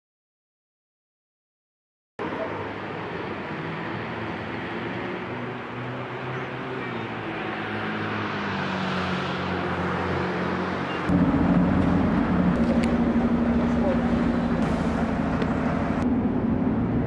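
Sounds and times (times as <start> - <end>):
close street noise: 2.2 - 17.0
street traffic hum: 2.2 - 17.0
vehicle passing: 2.6 - 17.0.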